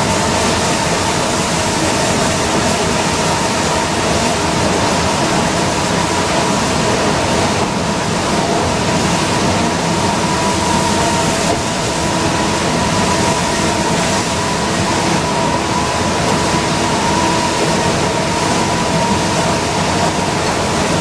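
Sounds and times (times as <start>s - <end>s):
bus engine drone and whine: 0.0s - 21.0s.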